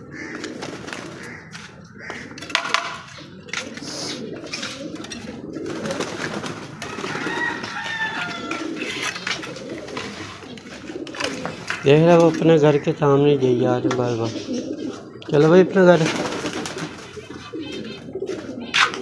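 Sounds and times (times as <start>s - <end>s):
pigeons and doves cooing: 0.0s - 19.0s.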